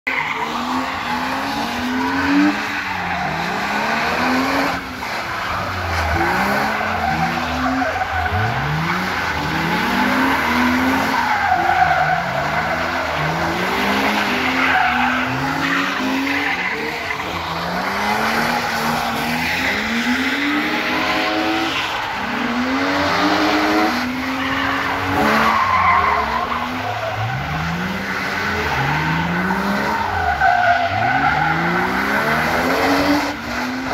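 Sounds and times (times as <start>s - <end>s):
car engine revving: 0.1s - 33.9s
tyres sliding on wet tarmac: 0.1s - 33.9s.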